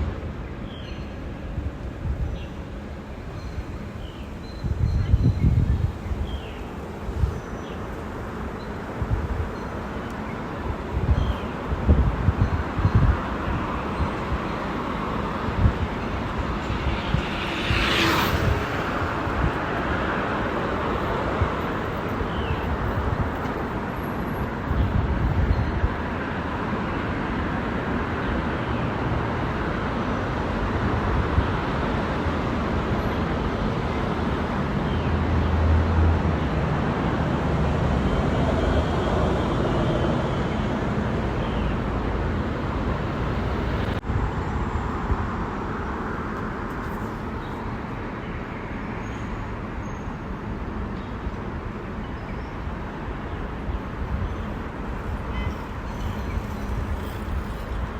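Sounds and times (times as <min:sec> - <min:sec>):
road traffic rumble: 0:00.0 - 0:57.9.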